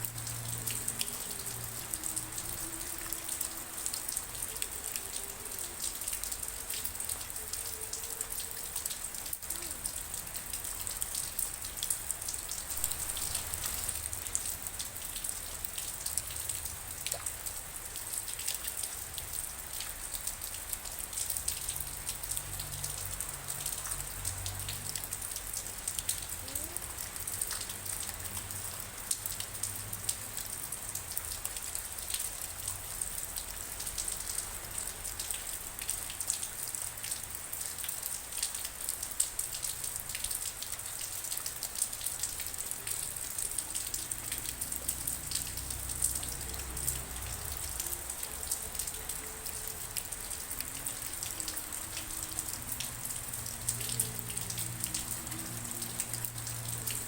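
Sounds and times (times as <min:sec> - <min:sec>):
raindrops ticking on a surface: 0:00.0 - 0:57.0
steady rainfall: 0:00.0 - 0:57.0.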